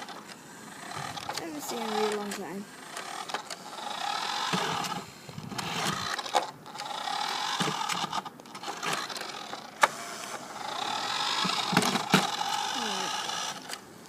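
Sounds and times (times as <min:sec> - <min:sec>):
toy car motor whining: 0:00.0 - 0:13.8.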